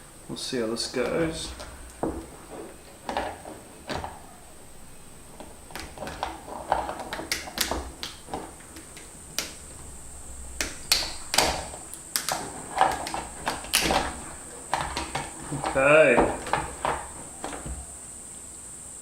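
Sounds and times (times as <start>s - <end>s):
crab shell cracking: 1.0s - 17.7s.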